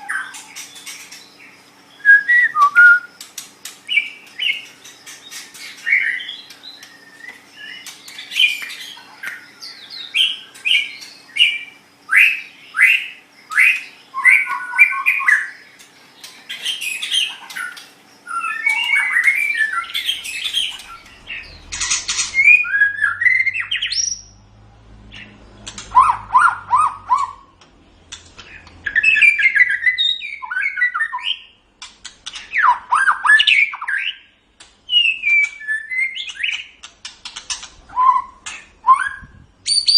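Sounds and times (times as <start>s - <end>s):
songbird singing whistles and trills: 0.0s - 3.2s, 5.3s - 15.7s, 16.5s - 24.4s, 25.1s - 27.5s, 28.6s - 31.6s, 32.3s - 34.3s, 34.9s - 36.8s, 37.5s - 39.9s.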